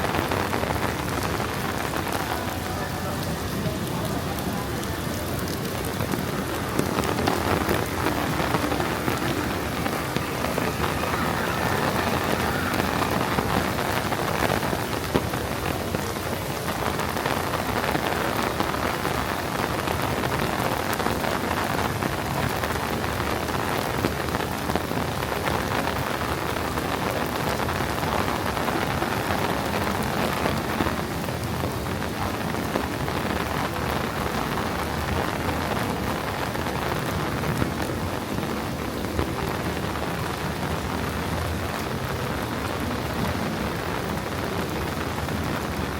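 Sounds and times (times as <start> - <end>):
heavy rain on hard surfaces: 0.0 - 45.9.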